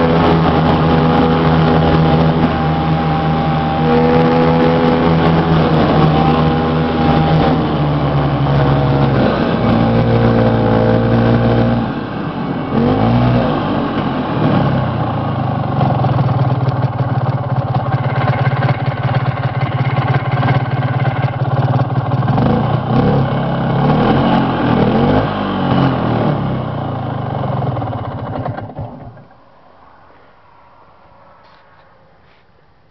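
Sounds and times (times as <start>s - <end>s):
snowmobile engine revving: 0.0s - 28.6s.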